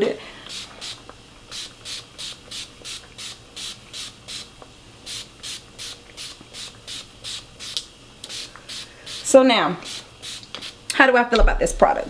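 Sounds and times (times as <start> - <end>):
pump spray bottle hissing: 0.4 - 4.5, 5.1 - 10.8.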